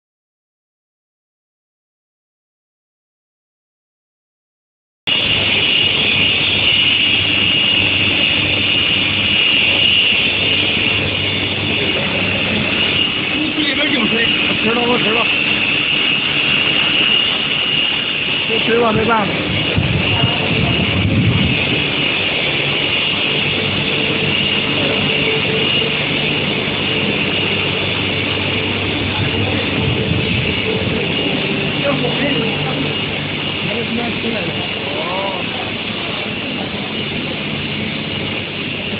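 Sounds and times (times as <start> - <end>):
high-pitched machine whine: 5.1 - 38.9
low machine hum: 5.1 - 38.9
roller conveyor turning: 5.1 - 38.9.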